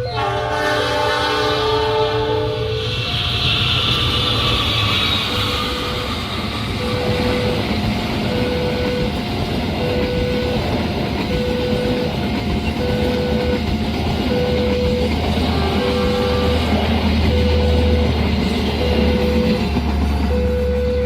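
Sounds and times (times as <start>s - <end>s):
level crossing alarm tone: 0.0s - 21.0s
train rumbling: 0.0s - 21.0s.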